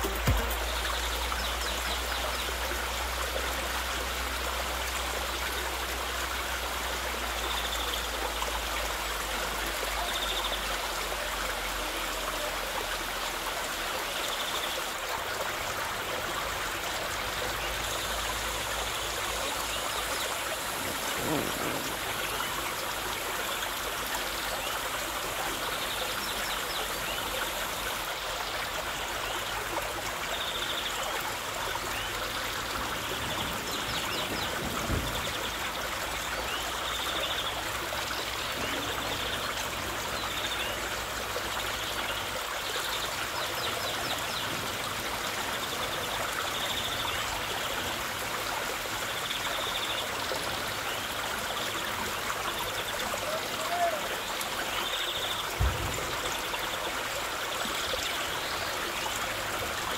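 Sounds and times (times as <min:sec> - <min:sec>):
waterfall and stream rushing: 0:00.0 - 0:59.9.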